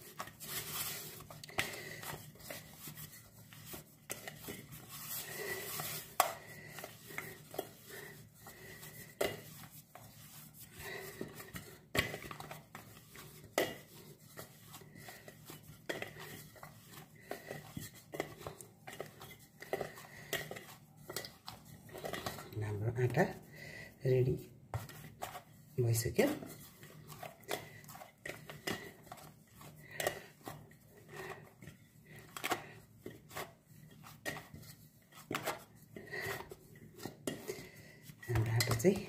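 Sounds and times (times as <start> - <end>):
dough kneaded by hand: 0.0 - 39.0.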